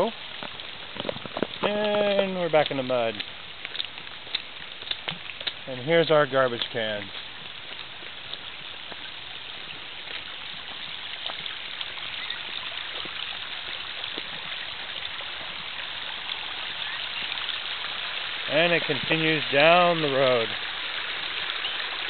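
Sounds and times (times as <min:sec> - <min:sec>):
water rushing down a dirt road: 0:00.0 - 0:22.0.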